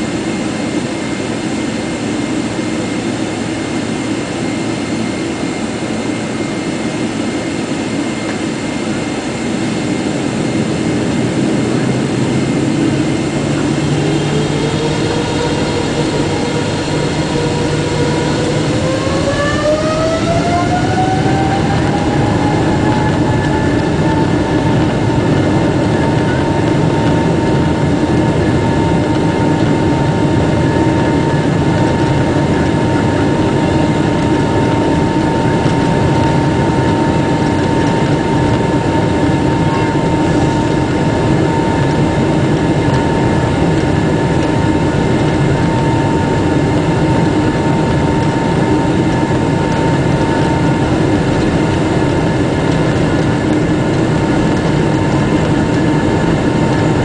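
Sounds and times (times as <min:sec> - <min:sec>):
jet engine drone: 0:00.0 - 0:57.0
rising engine whine: 0:00.0 - 0:57.0.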